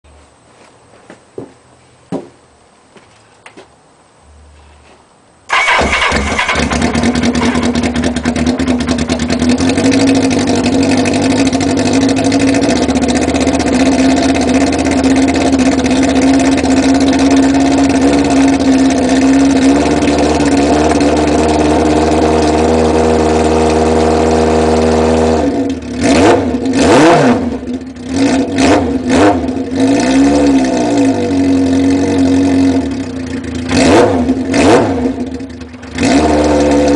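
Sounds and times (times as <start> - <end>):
motorcycle engine idling and revving: 5.5 - 36.9.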